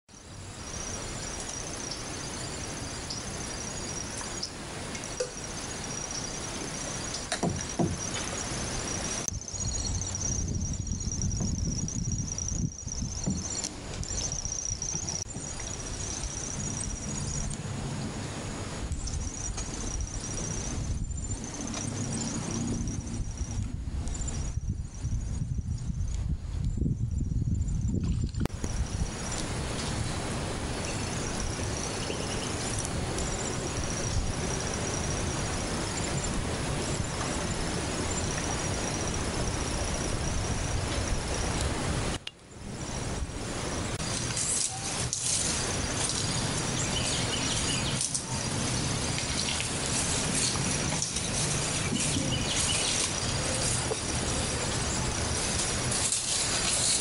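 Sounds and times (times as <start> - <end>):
insects trilling: 0.1 - 26.1, 26.8 - 57.0
outdoor background noise: 0.1 - 57.0.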